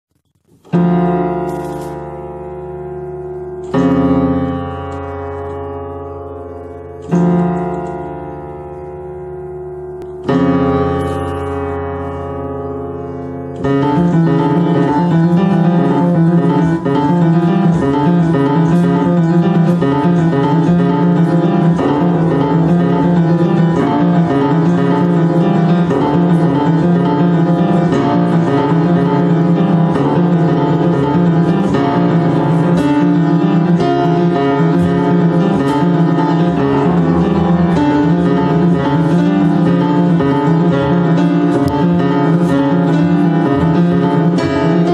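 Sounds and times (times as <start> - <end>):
upright piano playing: 0.4 - 44.9.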